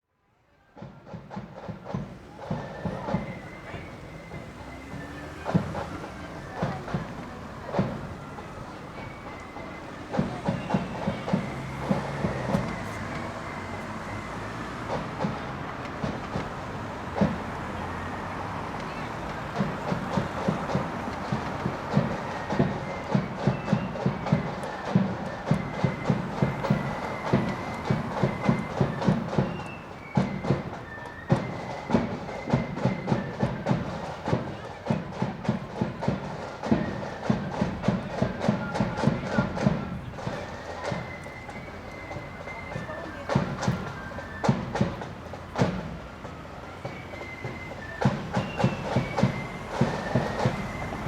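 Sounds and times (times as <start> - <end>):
parade drums thudding: 0.8 - 51.0.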